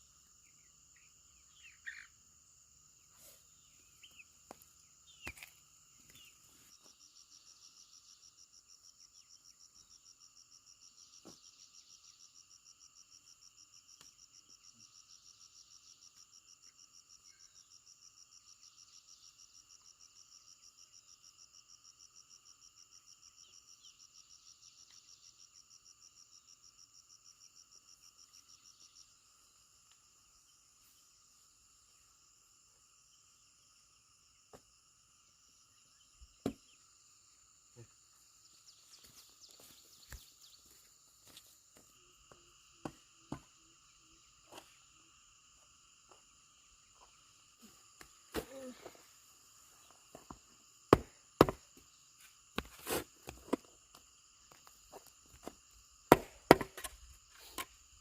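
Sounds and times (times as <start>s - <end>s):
insect chirping in fast pulse: 0.0s - 58.0s
insects droning: 0.0s - 58.0s.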